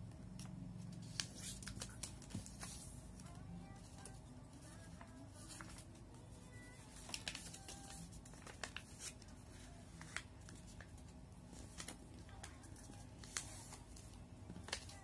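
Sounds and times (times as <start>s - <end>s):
paper being folded and creased: 0.9s - 5.9s, 6.5s - 15.0s.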